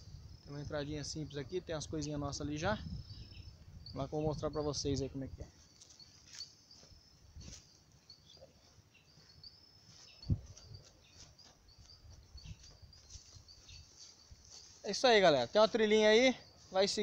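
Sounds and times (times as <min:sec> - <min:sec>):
high-pitched chirping: 0:00.0 - 0:17.0.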